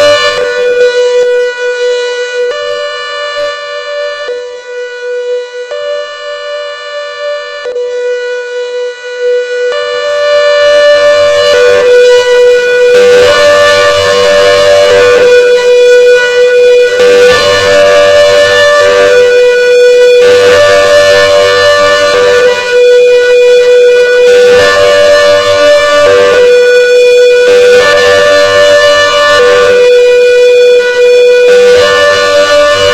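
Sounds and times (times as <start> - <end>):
siren hi-lo two-tone pattern: 0.0 - 32.9.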